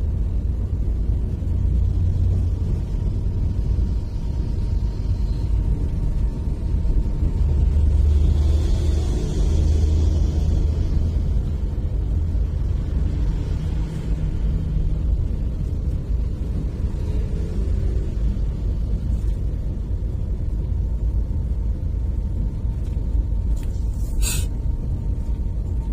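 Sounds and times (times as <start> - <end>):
vehicle engine and road noise: 0.0 - 25.9.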